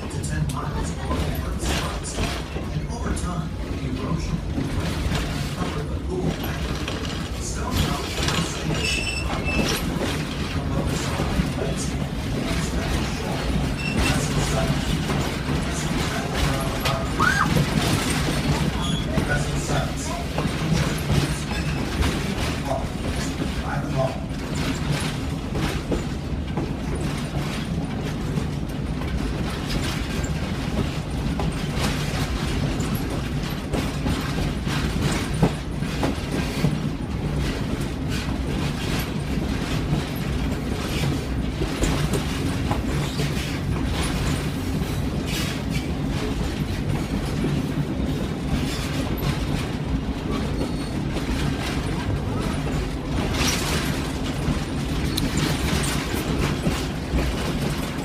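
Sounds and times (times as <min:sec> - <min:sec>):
train rumbling on track: 0:00.0 - 0:58.0
wheels clicking over rail joints: 0:00.0 - 0:58.0.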